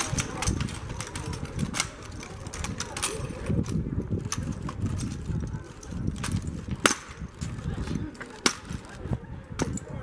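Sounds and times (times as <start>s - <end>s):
rifles slapping and clacking: 0.0s - 10.0s.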